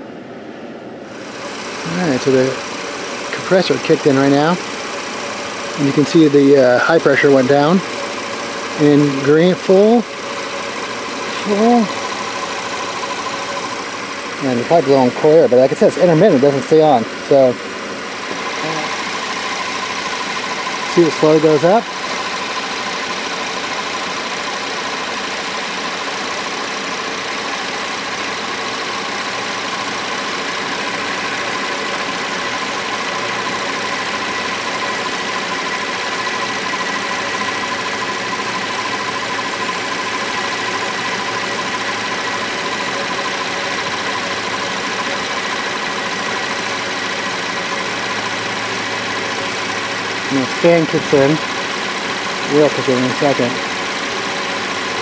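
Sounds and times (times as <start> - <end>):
faint steady whine: 0.0 - 55.0
car engine idling: 1.0 - 55.0.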